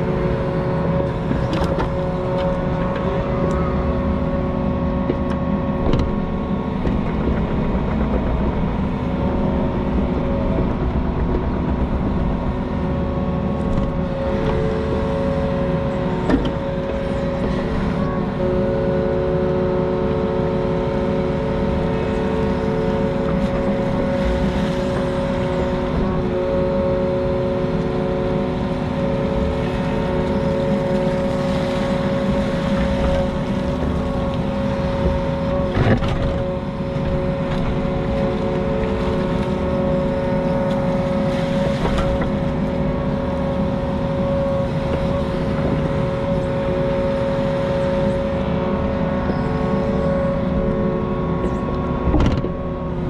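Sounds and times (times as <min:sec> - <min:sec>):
excavator engine running: 0:00.0 - 0:53.0
steady whine: 0:00.0 - 0:53.0.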